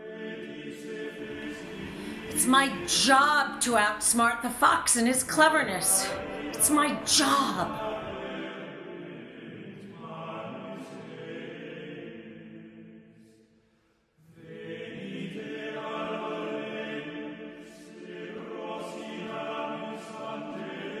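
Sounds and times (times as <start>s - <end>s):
choral music: 0.0s - 21.0s.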